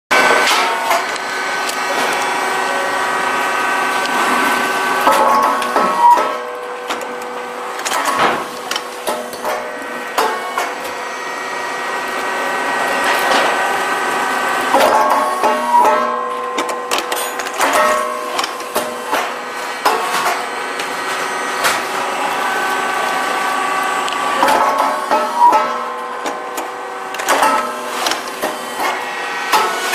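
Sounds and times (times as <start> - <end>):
machine mechanical whine: 0.1 - 29.9.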